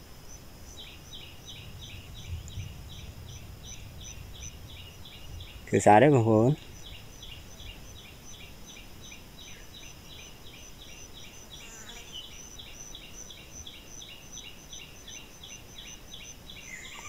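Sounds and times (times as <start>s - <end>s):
faint high pulsing buzz: 0.0s - 17.0s.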